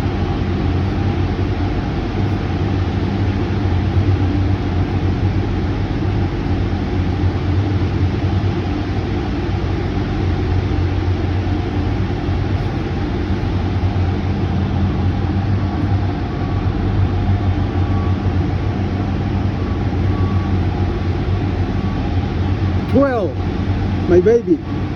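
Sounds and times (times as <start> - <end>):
low engine rumble: 0.0 - 24.9.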